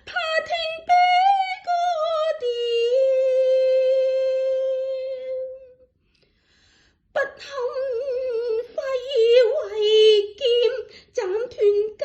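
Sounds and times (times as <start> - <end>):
solo opera singing voice: 0.0 - 5.8, 7.1 - 12.0.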